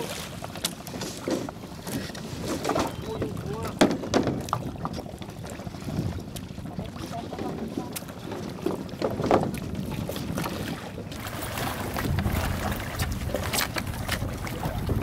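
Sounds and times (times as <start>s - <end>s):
sea water lapping: 0.0s - 15.0s
wind rumbling on microphone: 1.9s - 15.0s.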